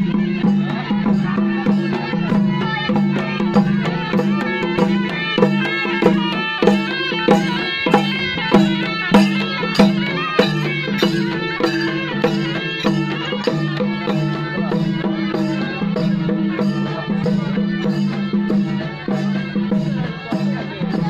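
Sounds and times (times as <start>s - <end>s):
folk melody: 0.0s - 21.0s
frame drum beating: 0.0s - 21.0s.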